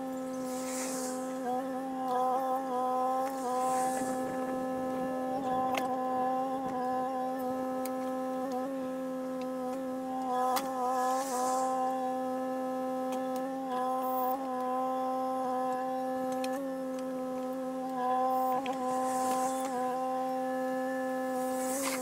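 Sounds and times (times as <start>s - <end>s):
hydraulic whine: 0.0s - 22.0s.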